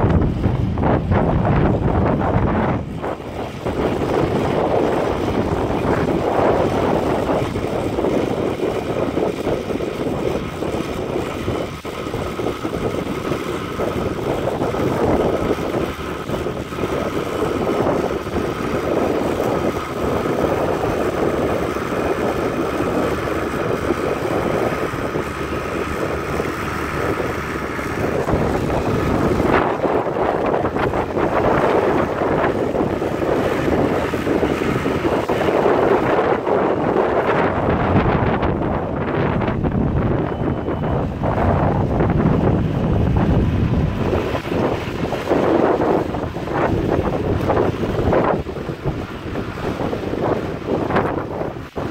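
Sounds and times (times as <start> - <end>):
tractor engine running under load: 0.0 - 51.9
wind buffeting microphone: 0.0 - 51.9.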